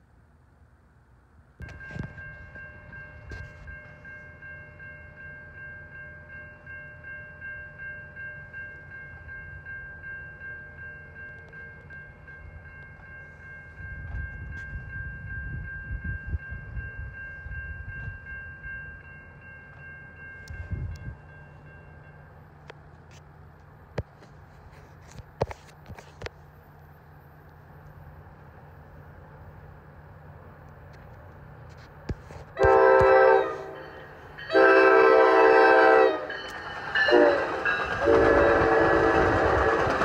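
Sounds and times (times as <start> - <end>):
train rumbling past: 0.9 - 40.0.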